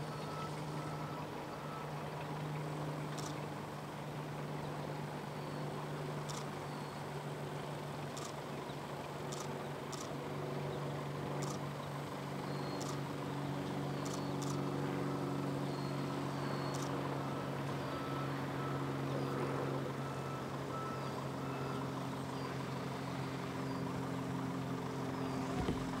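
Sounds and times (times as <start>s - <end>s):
airplane engine and propeller drone: 0.0s - 26.0s.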